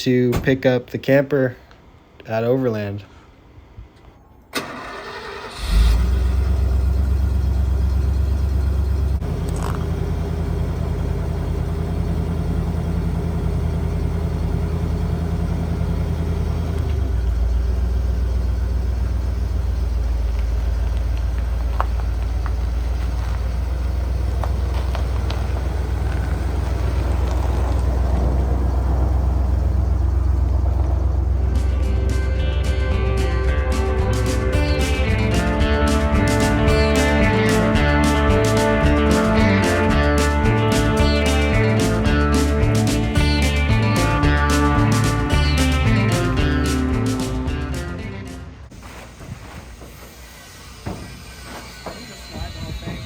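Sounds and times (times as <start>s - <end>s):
pickup engine droning: 4.5s - 53.0s.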